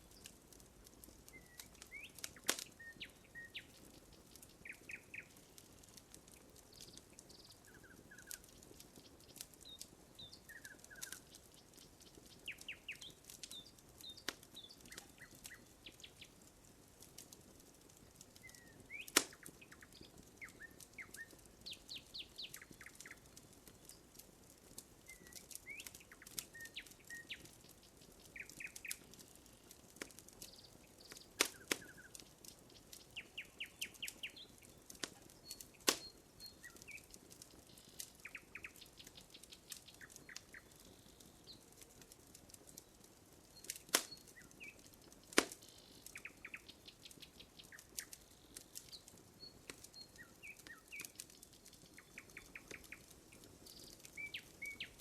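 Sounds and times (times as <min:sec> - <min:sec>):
campfire crackling and popping: 0:00.0 - 0:55.0
small birds chirping: 0:00.0 - 0:55.0.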